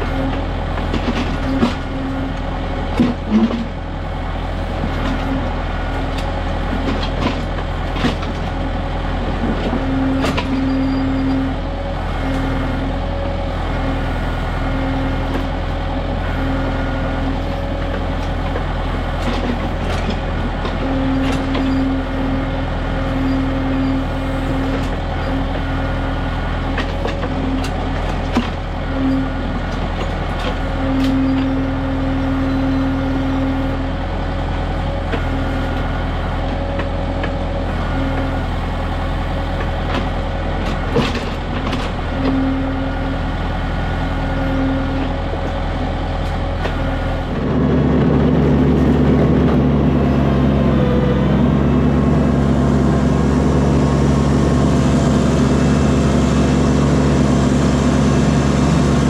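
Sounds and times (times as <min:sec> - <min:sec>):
diesel tractor engine running: 0:00.0 - 0:59.0
hydraulic whine: 0:00.0 - 0:59.0.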